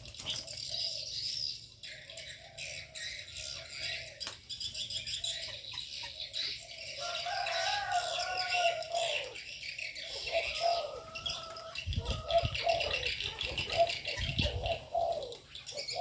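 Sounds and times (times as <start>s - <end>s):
doves cooing: 0.0s - 16.0s
small birds chirping: 0.0s - 16.0s.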